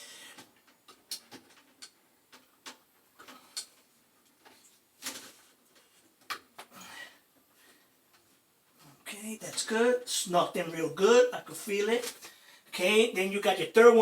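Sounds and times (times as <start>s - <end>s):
wires rustling: 0.3s - 14.0s.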